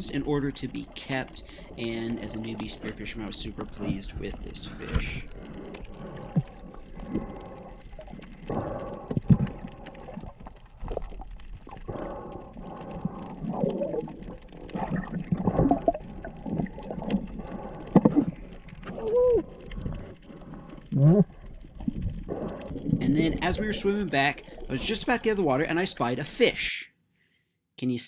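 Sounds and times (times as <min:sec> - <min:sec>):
underwater water movement and bubbling: 0:00.0 - 0:26.7.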